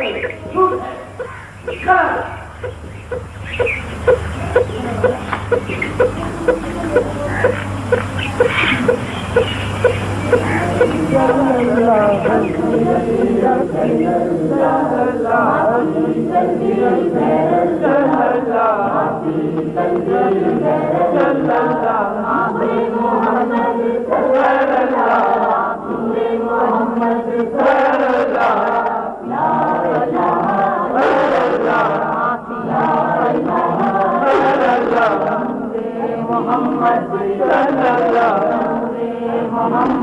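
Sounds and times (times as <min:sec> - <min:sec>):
group of voices chanting: 0:03.6 - 0:40.0.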